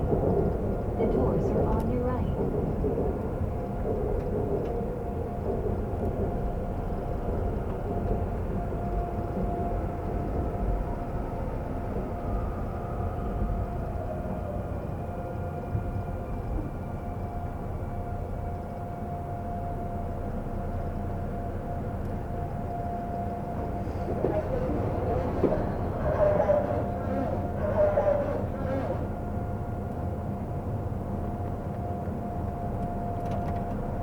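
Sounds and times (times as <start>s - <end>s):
subway train rumble: 0.0s - 34.0s.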